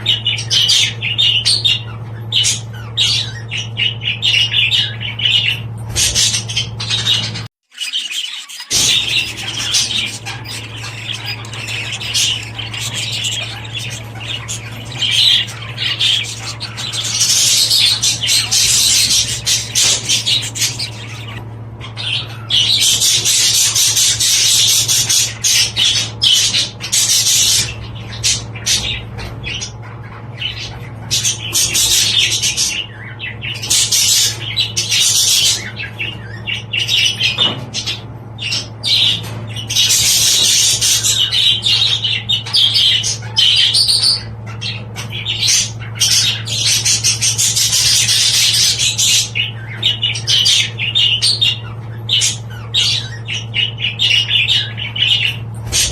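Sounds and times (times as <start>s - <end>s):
budgerigars chattering: 0.0s - 55.9s
steady low hum: 8.4s - 55.9s.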